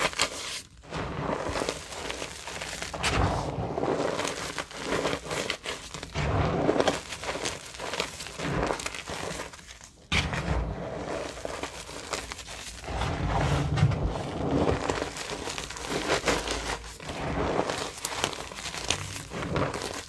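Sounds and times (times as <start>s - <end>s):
chalk crunching by hand: 0.0s - 20.0s.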